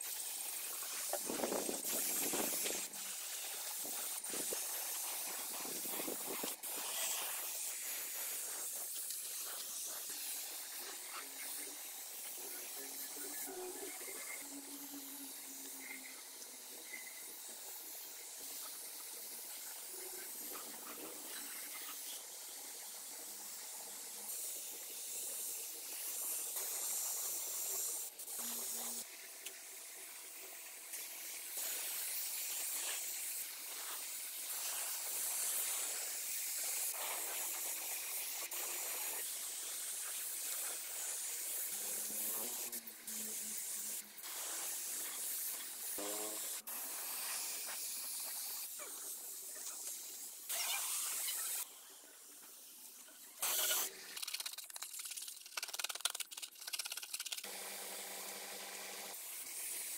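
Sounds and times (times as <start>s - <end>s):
paint spray gun hissing: 0.0s - 29.7s, 30.5s - 52.0s, 53.2s - 59.9s.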